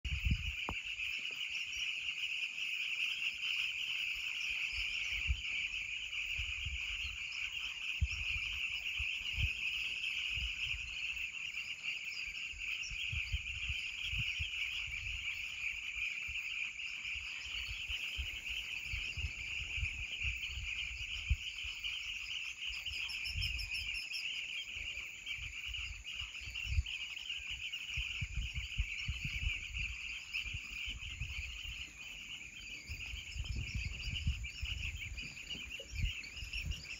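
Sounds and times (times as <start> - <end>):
crickets trilling: 0.0 - 36.9.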